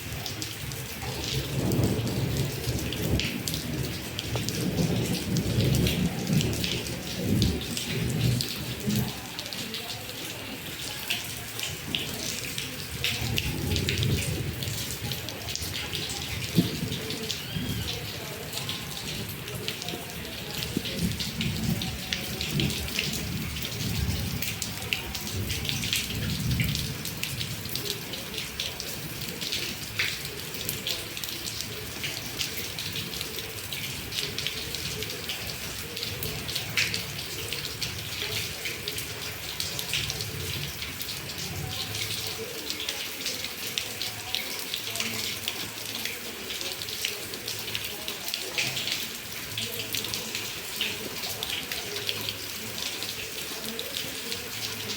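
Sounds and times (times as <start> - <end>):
heavy rain falling: 0.0 - 54.9
water running and pouring: 0.0 - 54.9.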